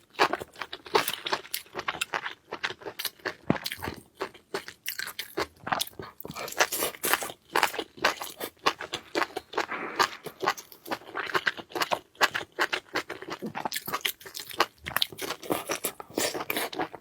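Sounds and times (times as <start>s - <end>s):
person chewing and crunching: 0.0s - 17.0s.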